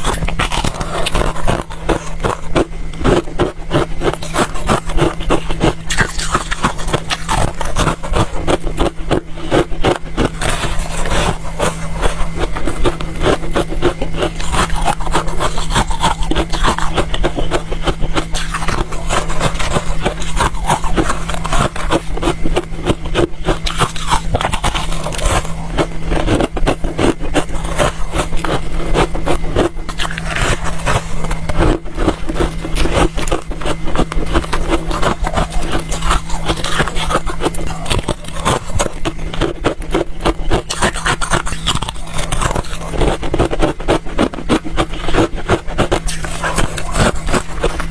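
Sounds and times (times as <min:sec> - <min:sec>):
frost being chewed: 0:00.0 - 0:47.9
low hum: 0:00.0 - 0:47.9.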